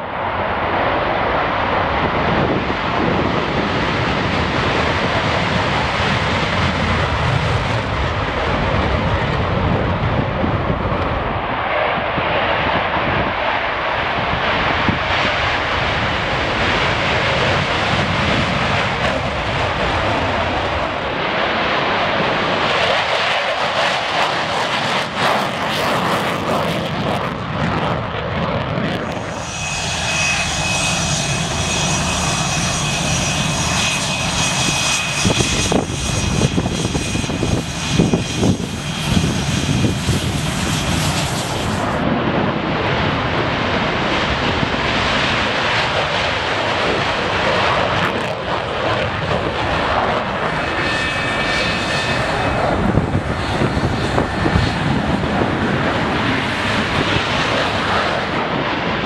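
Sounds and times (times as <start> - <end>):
fighter jet engines roaring: 0.0 - 59.0.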